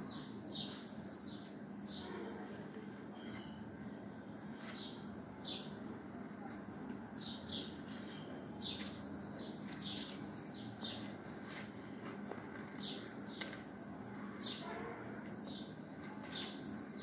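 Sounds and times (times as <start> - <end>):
small birds chirping: 0.0 - 14.7, 15.4 - 17.0
faint steady hum: 0.0 - 17.0.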